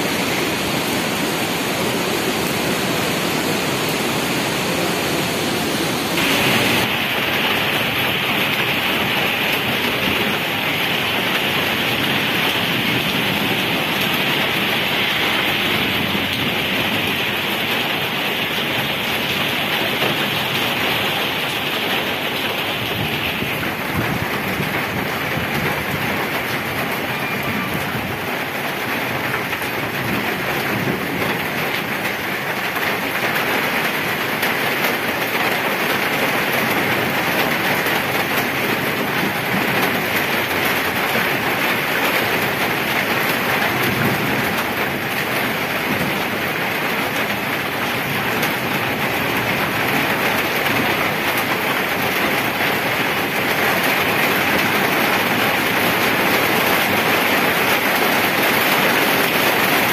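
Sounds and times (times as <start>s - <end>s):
rain on wet pavement: 0.0s - 59.9s.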